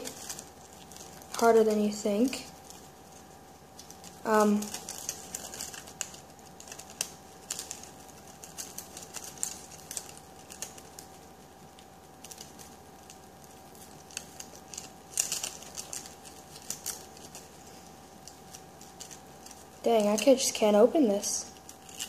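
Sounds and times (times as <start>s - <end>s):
faint steady hum: 0.0s - 22.0s
paper crackling and crinkling: 0.0s - 22.0s.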